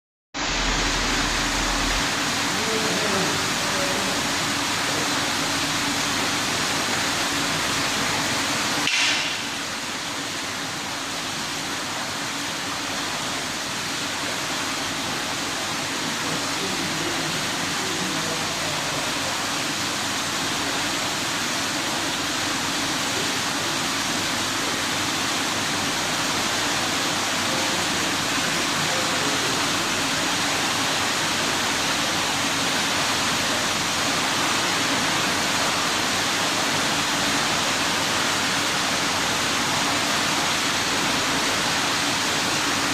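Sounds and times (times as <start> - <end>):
running water rushing: 0.4 - 42.9.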